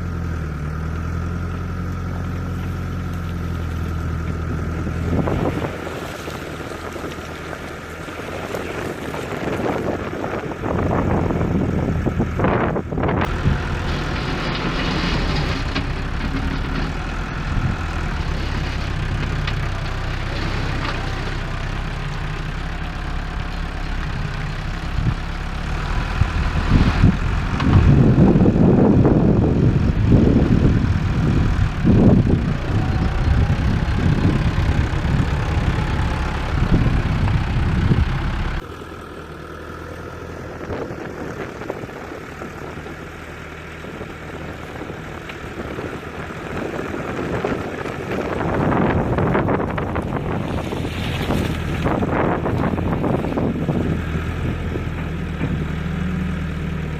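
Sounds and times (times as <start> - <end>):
heavy machinery diesel engine: 0.0 - 56.9.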